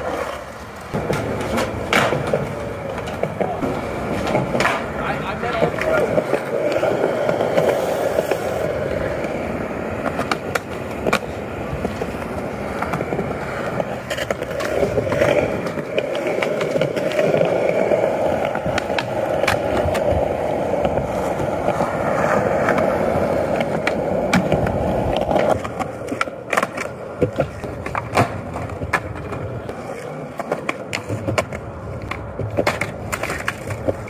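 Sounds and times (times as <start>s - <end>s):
sharp skateboard clacks: 0.0s - 34.0s
skateboard wheels rolling on concrete: 0.0s - 34.0s.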